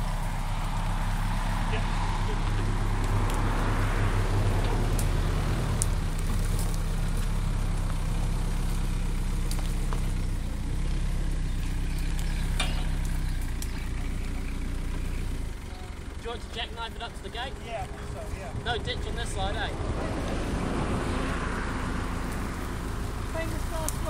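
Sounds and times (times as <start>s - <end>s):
truck engine low hum: 0.0s - 24.0s.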